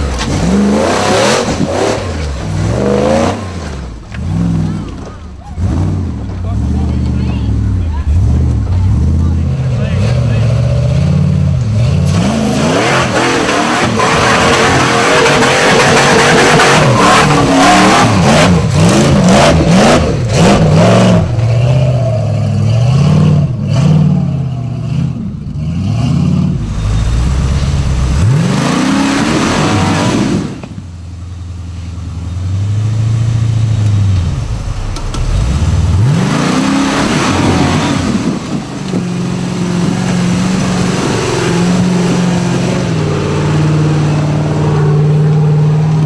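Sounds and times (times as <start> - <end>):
buggy engine revving: 0.0 - 46.0.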